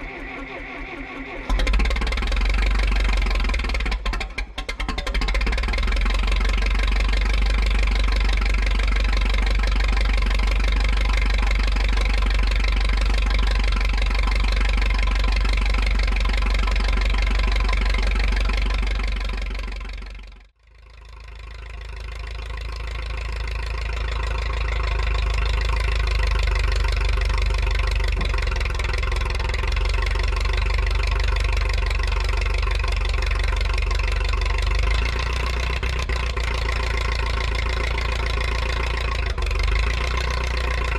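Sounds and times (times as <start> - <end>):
dozer engine idling: 0.0 - 40.9.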